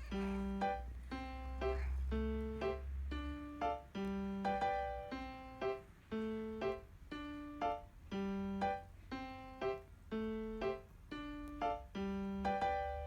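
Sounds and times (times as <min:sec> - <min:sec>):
light keyboard tune: 0:00.0 - 0:13.0.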